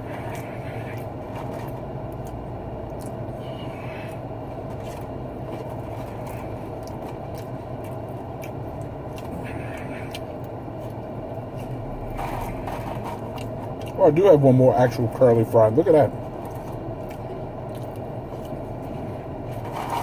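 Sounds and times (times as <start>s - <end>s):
low hum in car cabin: 0.0s - 20.0s
scrapes and rustles of fries: 0.0s - 20.0s.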